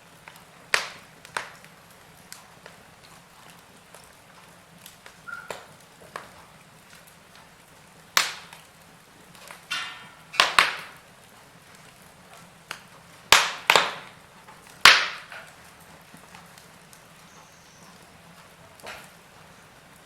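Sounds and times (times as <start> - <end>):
faint steady hiss: 0.0 - 20.0
wood fire crackling and popping: 0.0 - 20.0.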